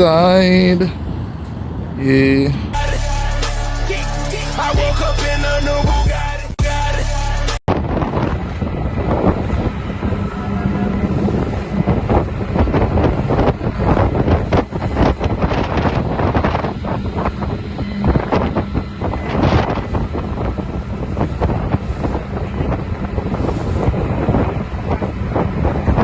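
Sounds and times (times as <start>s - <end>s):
wind buffeting microphone: 0.0s - 2.8s, 7.7s - 26.0s.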